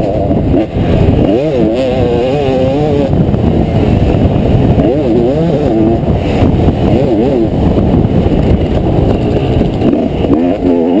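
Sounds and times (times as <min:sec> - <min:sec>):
motocross bike engine: 0:00.0 - 0:11.0.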